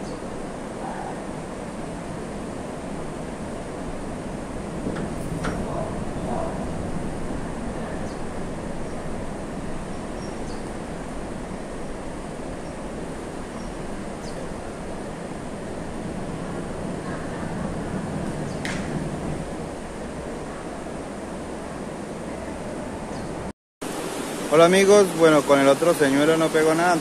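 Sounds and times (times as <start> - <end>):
river rushing past rocks: 0.0 - 27.0.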